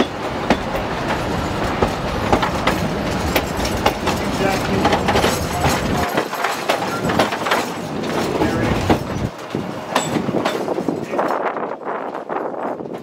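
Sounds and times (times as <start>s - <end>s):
passenger car rattling: 0.0s - 13.0s
train wheels clicking over rail joints: 0.0s - 13.0s.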